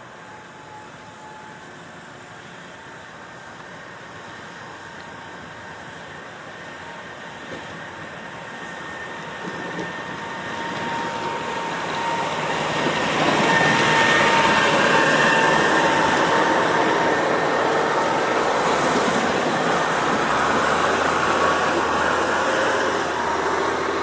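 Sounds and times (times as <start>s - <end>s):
snowplow rumble: 0.0s - 24.0s.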